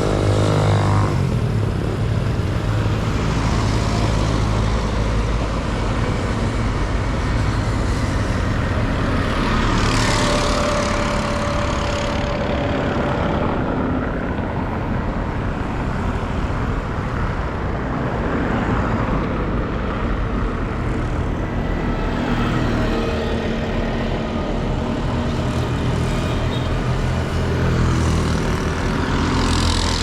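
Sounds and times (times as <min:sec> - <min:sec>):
traffic engines rumbling: 0:00.0 - 0:30.0.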